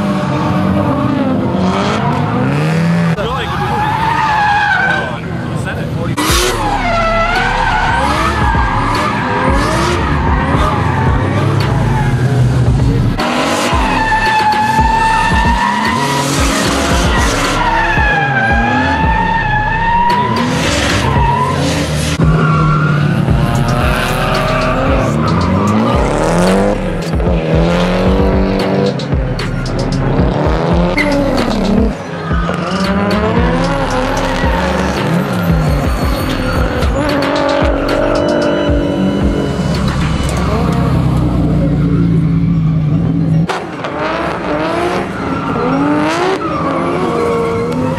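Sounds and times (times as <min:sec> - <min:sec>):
engines revving: 0:00.0 - 0:47.9
tyres squealing on asphalt: 0:00.2 - 0:47.9.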